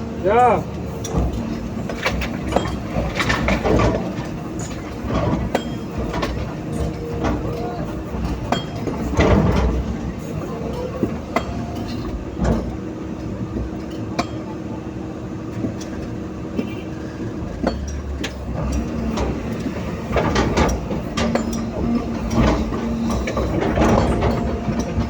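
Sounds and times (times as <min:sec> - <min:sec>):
excavator diesel engine under load: 0:00.0 - 0:25.0
metallic clanks and rattles: 0:00.4 - 0:14.7, 0:15.5 - 0:25.0.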